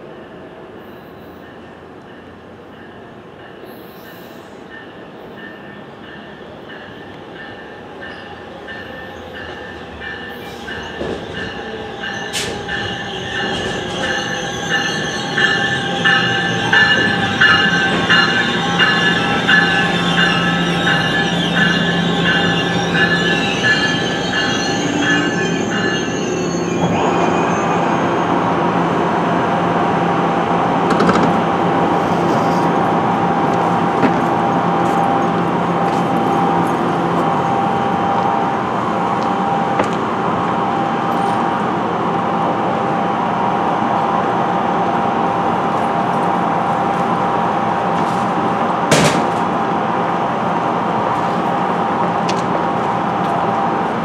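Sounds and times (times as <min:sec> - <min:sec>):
train easing to a stop: 0:00.0 - 0:54.0.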